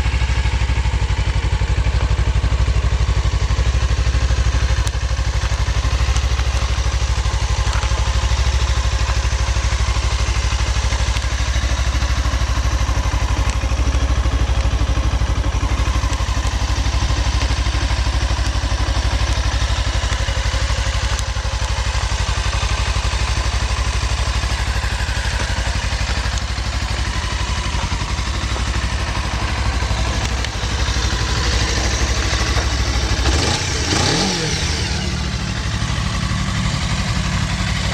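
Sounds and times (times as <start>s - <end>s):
motorcycle engine idling and revving: 0.0s - 37.9s.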